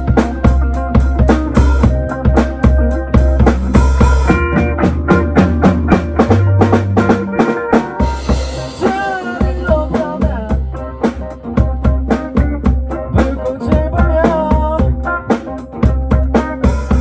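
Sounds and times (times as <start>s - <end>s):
music with drum beat and bass: 0.0s - 17.0s.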